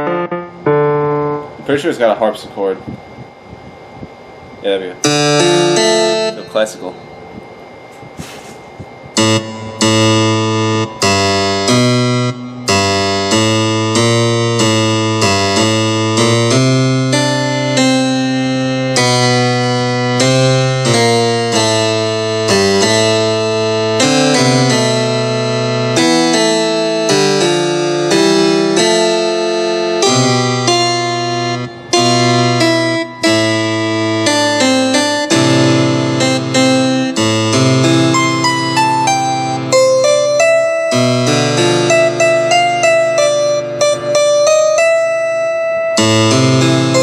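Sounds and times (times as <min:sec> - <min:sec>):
piano bass notes: 0:00.0 - 0:07.4, 0:08.7 - 0:47.0
digital piano chords: 0:00.0 - 0:08.0, 0:08.7 - 0:47.0.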